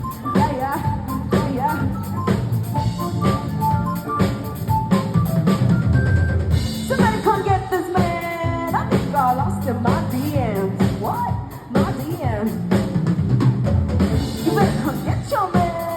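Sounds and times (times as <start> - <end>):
drum-kit beat: 0.0 - 15.9.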